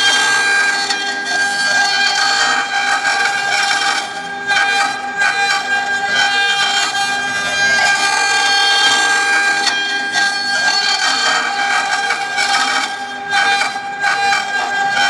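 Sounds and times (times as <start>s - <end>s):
end mill cutting wood: 0.0s - 15.0s
router spindle high whine: 0.0s - 15.0s.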